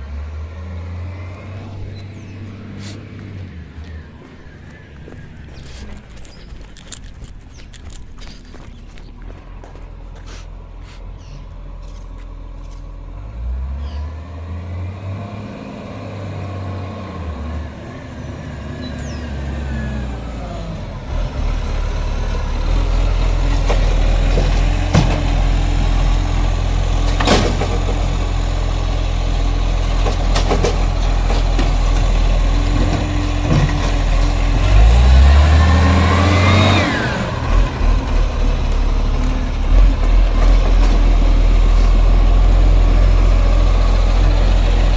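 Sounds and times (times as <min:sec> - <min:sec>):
garbage truck engine revving: 0:00.0 - 0:11.1, 0:13.1 - 0:44.9.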